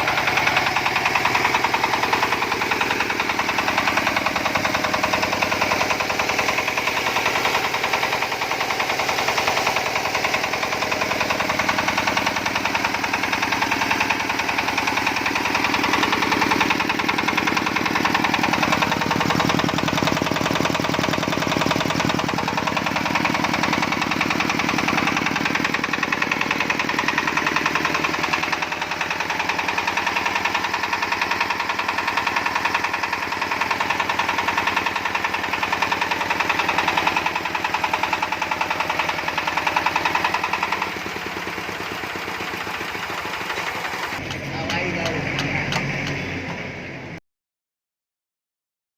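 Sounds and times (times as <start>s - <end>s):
diesel engine knocking: 0.0s - 46.7s.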